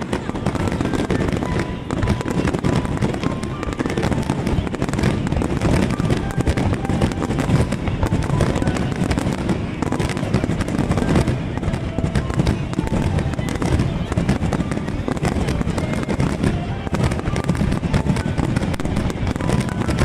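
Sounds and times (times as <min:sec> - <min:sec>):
fireworks bursts and crackling: 0:00.0 - 0:20.0.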